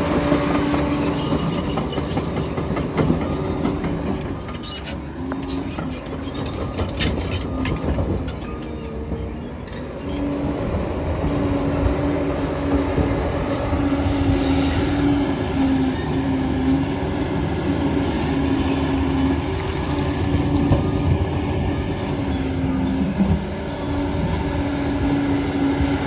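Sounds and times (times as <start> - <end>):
bulldozer diesel engine rumbling: 0.0 - 26.0.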